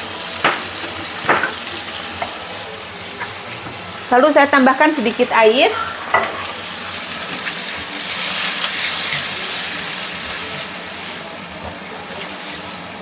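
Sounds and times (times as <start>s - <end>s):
tomatoes sizzling in a frying pan: 0.0s - 13.0s
water steam hissing in hot oil: 0.0s - 13.0s.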